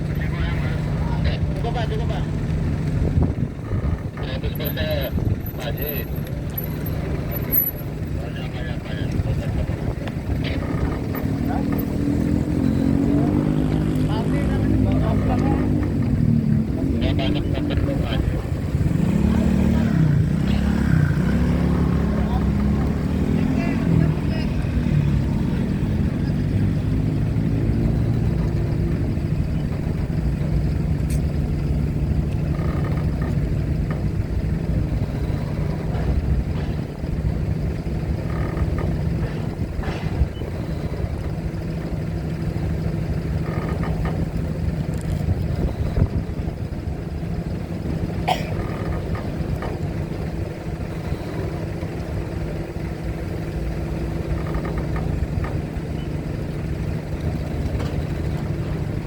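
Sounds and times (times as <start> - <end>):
engines idling: 0.0 - 59.0.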